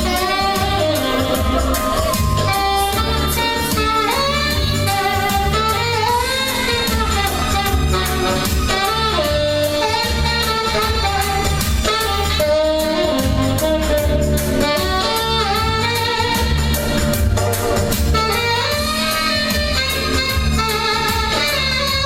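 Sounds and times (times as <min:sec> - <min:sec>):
bass: 0:00.0 - 0:22.0
drums: 0:00.0 - 0:22.0
saxophone melody: 0:00.0 - 0:22.0.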